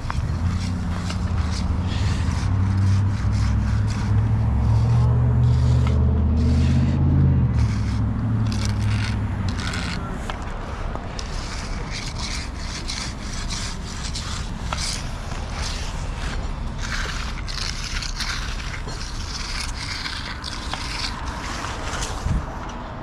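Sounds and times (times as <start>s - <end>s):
hand edger scraping concrete: 0.0s - 22.6s
steady low rumble: 0.0s - 23.0s.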